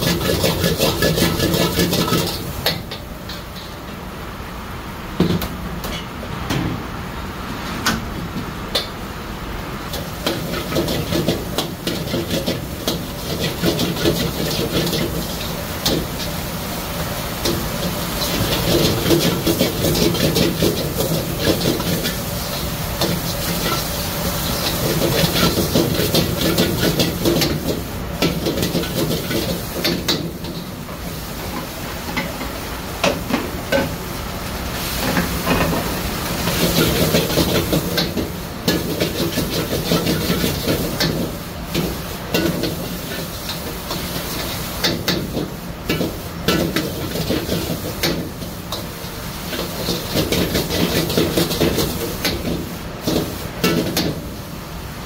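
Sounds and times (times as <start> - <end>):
frying sizzle: 0.0 - 55.0
gas burner rumble: 0.0 - 55.0.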